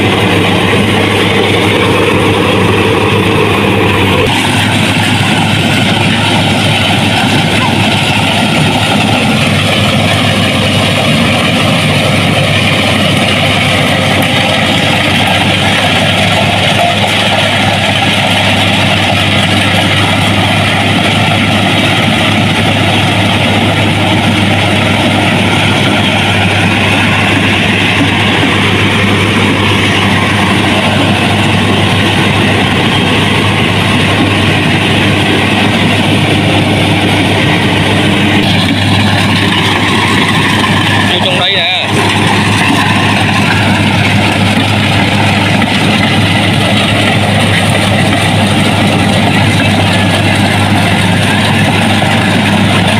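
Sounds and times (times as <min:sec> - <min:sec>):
harvesting machine engine running: 0:00.0 - 0:52.9.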